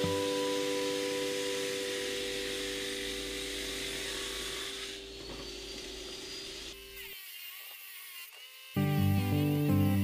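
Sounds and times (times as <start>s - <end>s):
table saw cutting wood: 0.0s - 10.0s.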